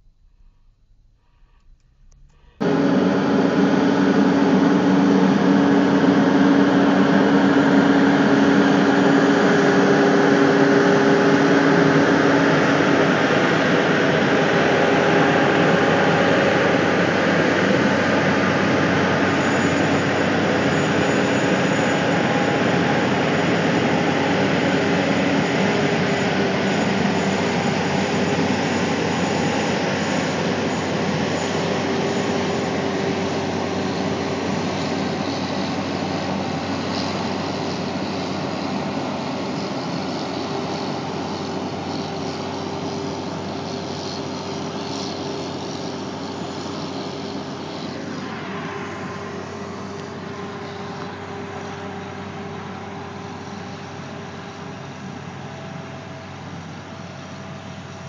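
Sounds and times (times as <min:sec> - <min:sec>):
truck diesel engine under load: 0:02.6 - 0:58.0.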